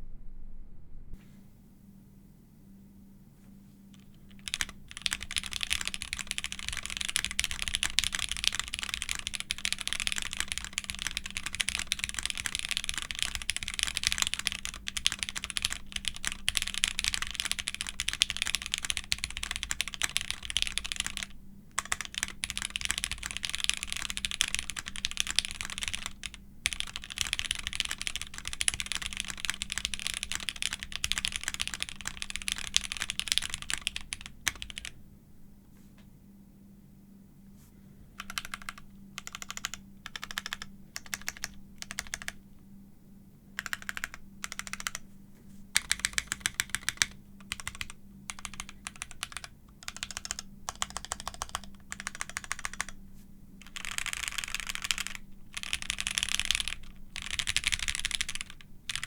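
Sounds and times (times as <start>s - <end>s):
mechanical keyboard typing: 4.0s - 34.9s, 38.2s - 42.4s, 43.6s - 45.0s, 45.8s - 53.0s, 53.6s - 59.0s.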